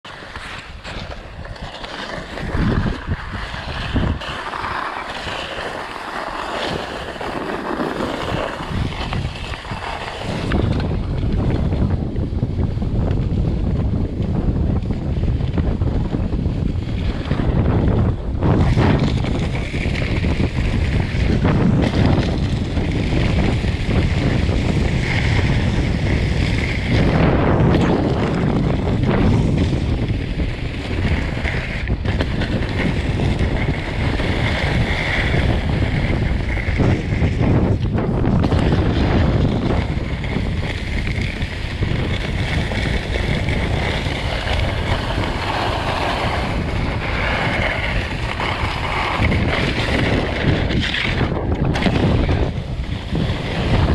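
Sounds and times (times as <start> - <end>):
wind buffeting microphone: 0.0 - 53.9
skis hissing over snow: 0.1 - 11.0, 18.4 - 37.8, 38.4 - 53.9.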